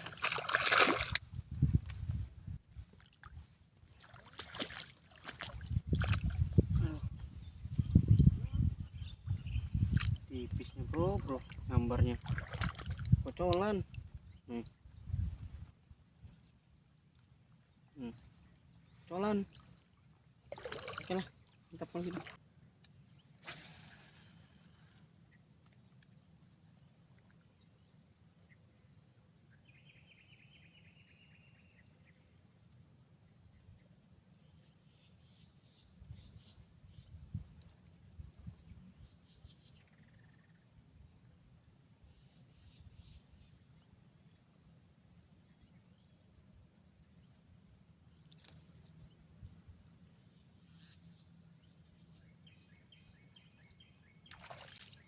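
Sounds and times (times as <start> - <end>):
crickets droning: 0.0 - 55.0.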